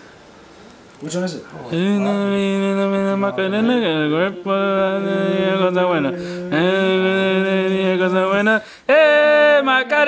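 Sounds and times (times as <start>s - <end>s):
person singing long notes: 1.7s - 10.0s.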